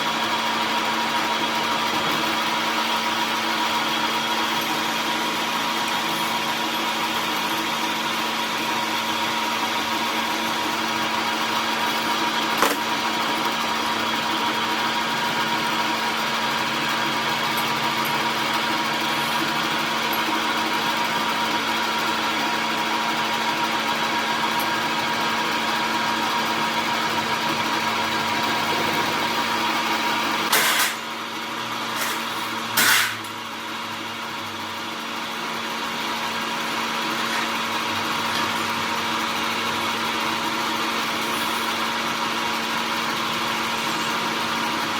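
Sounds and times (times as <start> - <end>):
workshop machine humming: 0.0 - 44.9.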